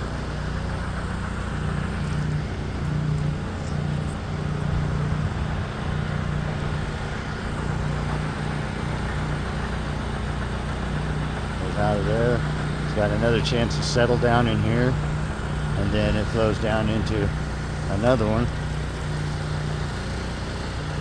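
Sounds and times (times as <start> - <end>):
milling machinery droning: 0.0 - 21.0.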